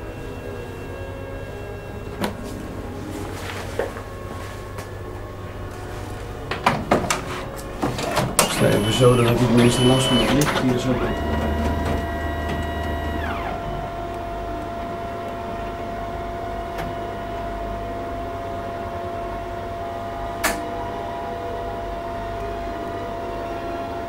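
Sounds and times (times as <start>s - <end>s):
higher tone and low hum: 0.0s - 24.0s
machine whine: 0.0s - 24.0s.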